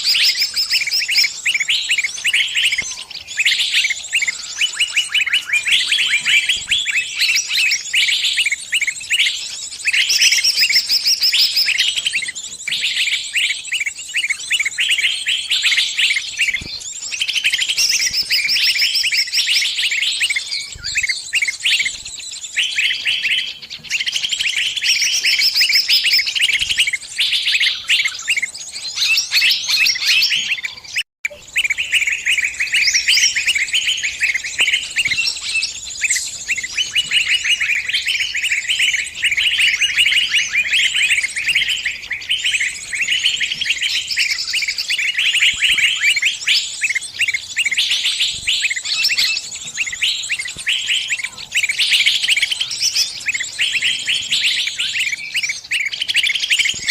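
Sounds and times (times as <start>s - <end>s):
small bird distress chirping: 0.0s - 56.9s.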